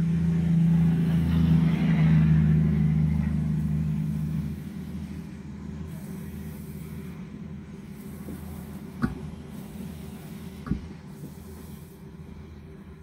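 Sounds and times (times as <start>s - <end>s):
low droning hum: 0.0s - 13.0s.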